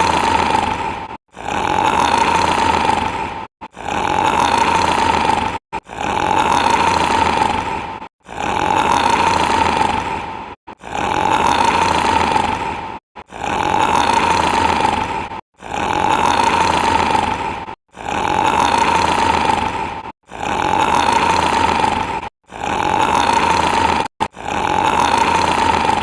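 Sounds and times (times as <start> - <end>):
loud rasping snoring: 0.0 - 26.0.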